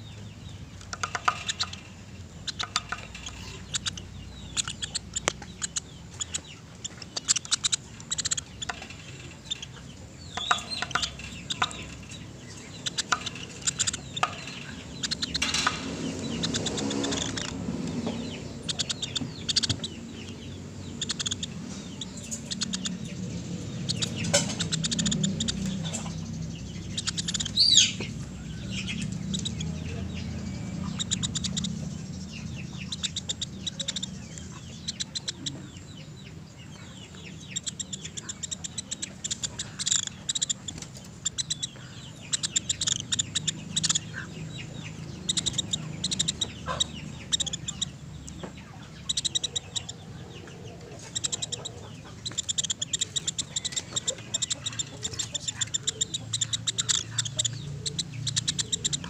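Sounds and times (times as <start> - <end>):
woodpecker rattling ticks: 0.0 - 35.9, 37.0 - 50.0, 50.8 - 59.0
woodpecker calling: 0.0 - 59.0.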